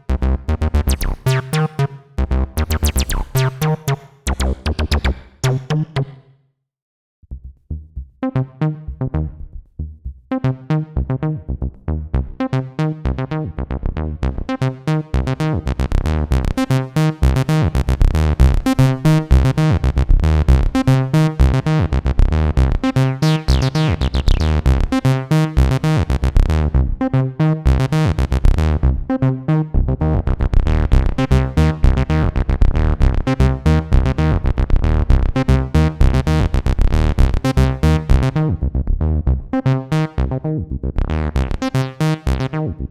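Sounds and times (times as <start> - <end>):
squelchy acid synth bassline: 0.0 - 6.3, 7.8 - 42.9.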